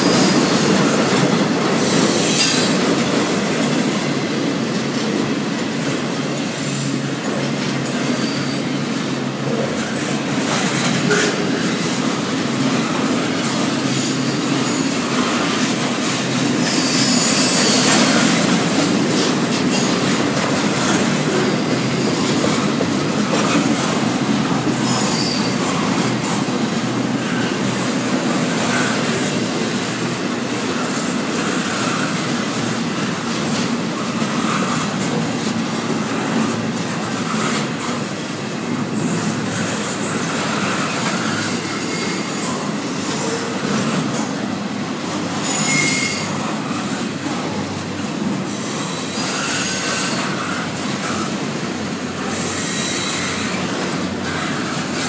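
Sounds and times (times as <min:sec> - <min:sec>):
train wheel squeal: 0:00.0 - 0:04.3, 0:06.2 - 0:35.2, 0:36.1 - 0:44.6, 0:45.2 - 0:55.0
steel wheels rumbling on rail: 0:00.0 - 0:55.0.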